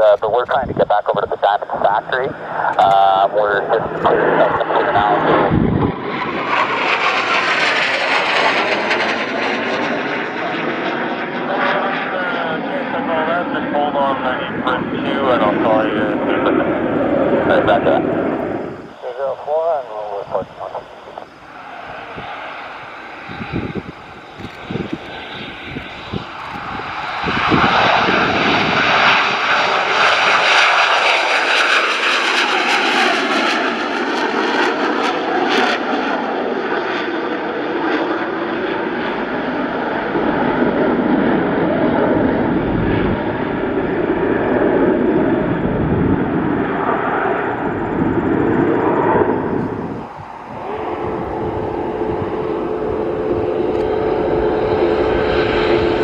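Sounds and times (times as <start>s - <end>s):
airplane engine noise: 0.0s - 56.0s.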